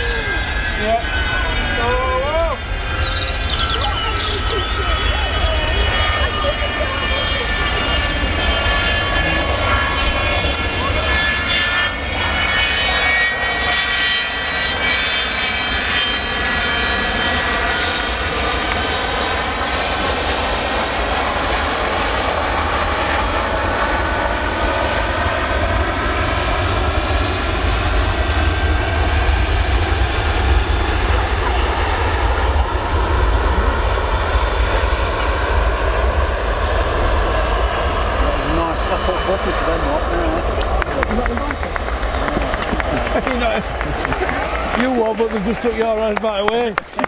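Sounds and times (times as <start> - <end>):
jet engines roaring: 0.0 - 47.0
whining engine tones: 0.0 - 47.0.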